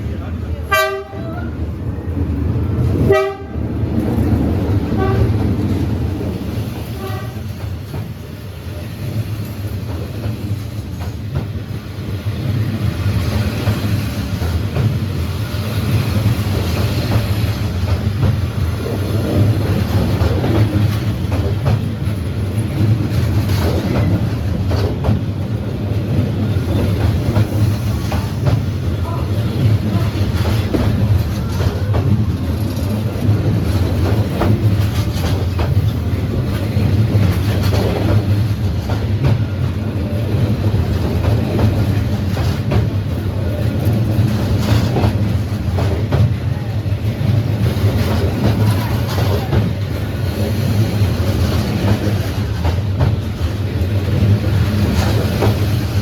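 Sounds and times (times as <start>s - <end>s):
train rumbling past: 0.0s - 56.0s
wheels clacking over rail joints: 9.2s - 56.0s.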